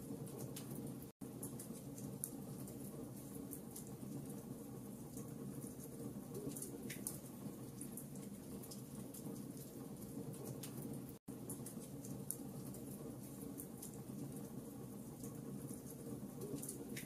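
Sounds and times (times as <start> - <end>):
fire crackling and popping: 0.0 - 17.0
low rumble of fire: 0.0 - 17.0.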